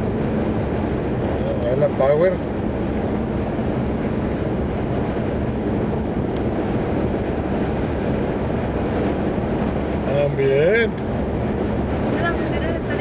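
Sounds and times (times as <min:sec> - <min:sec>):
car road noise drone: 0:00.0 - 0:13.0.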